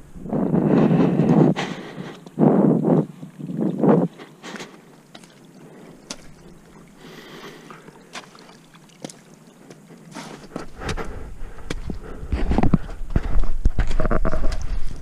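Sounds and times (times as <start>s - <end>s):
footsteps in wet slush: 0.8s - 15.0s.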